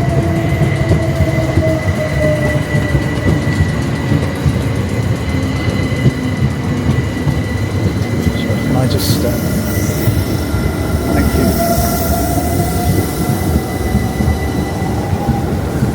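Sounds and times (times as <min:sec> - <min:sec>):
train motor whine: 0:00.0 - 0:15.9
train wheels rumbling on track: 0:00.0 - 0:15.9.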